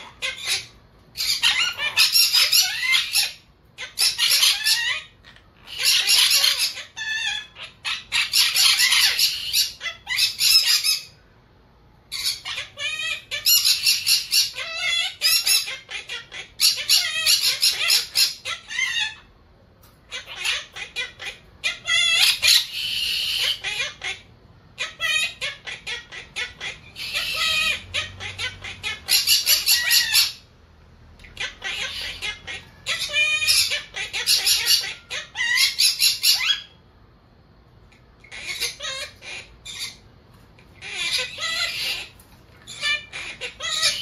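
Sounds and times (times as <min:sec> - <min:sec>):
parakeet chattering and squawking: 0:00.0 - 0:11.4, 0:12.0 - 0:44.0.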